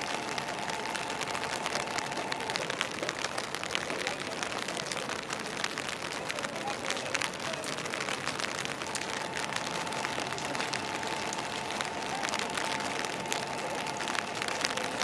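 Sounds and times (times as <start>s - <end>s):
rain dripping and pattering: 0.0s - 15.0s.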